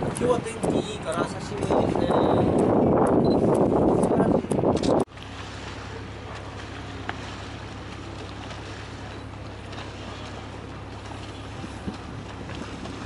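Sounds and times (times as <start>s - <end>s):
boat engine humming: 0.0s - 13.0s
water noise: 0.0s - 13.0s
wind: 0.0s - 13.0s.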